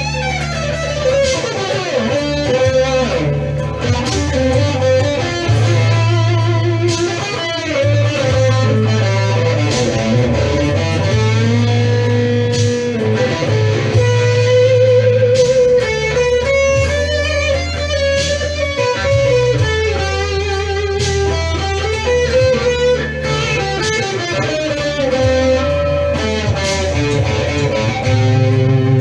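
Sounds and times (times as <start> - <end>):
sustained low bass notes: 0.0 - 1.4, 2.0 - 29.0
electric guitar blues lead: 0.0 - 29.0.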